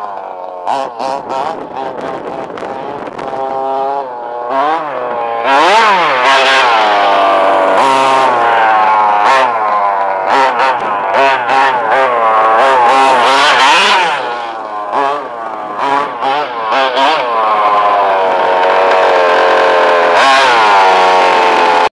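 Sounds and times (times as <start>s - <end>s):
two-stroke engine revving: 0.0s - 21.9s.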